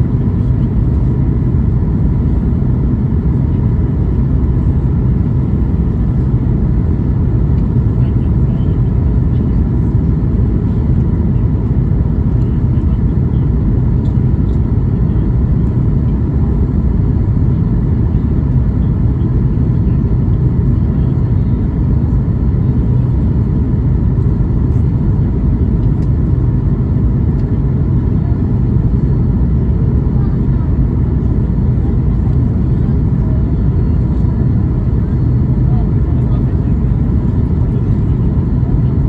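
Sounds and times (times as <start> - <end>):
airplane cabin rumble: 0.0 - 39.0.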